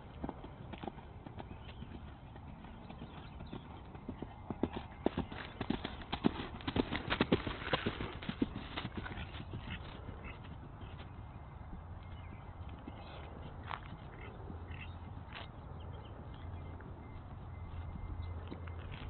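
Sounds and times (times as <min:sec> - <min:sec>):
horse hoofbeats on grass: 0:00.0 - 0:19.0.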